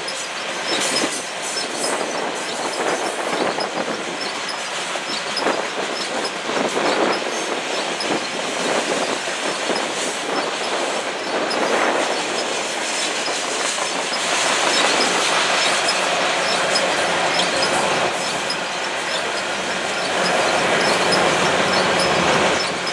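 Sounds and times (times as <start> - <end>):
steel wheels rolling on rails: 0.0 - 22.9.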